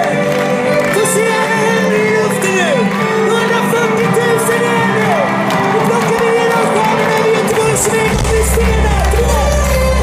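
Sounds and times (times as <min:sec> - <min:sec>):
live pop-rock band playing: 0:00.0 - 0:10.0
person singing: 0:00.0 - 0:10.0.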